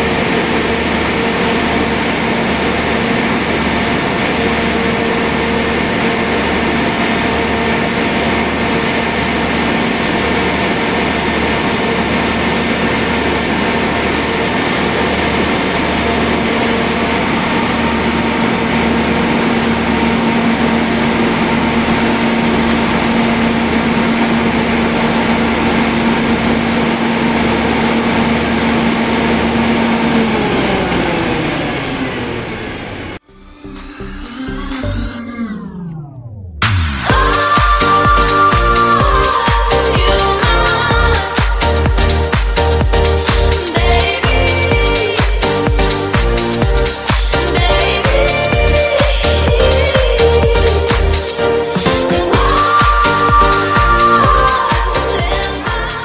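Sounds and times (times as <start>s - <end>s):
generator engine drone: 0.0s - 56.0s
steady whine: 0.0s - 56.0s.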